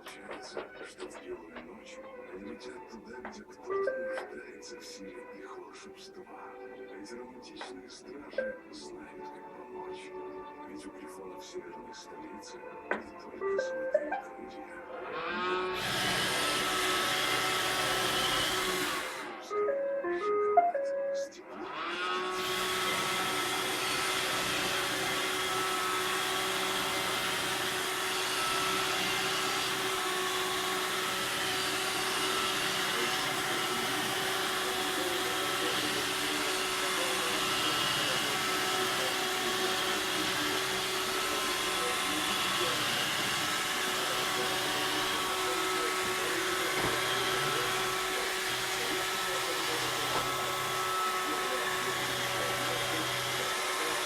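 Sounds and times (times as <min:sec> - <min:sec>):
robot vacuum cleaner whirring: 0:00.0 - 0:09.8, 0:13.5 - 0:20.4, 0:21.4 - 0:54.0.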